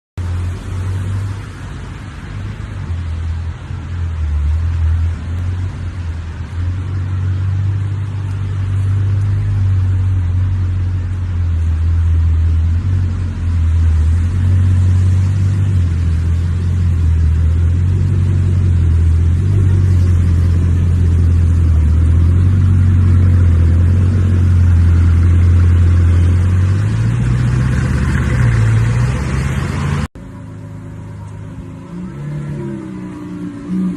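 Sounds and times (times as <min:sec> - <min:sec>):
car engine droning: 0:00.2 - 0:33.9.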